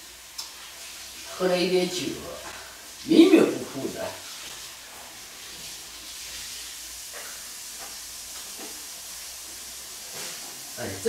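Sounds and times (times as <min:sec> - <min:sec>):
stove hiss: 0:00.0 - 0:11.0.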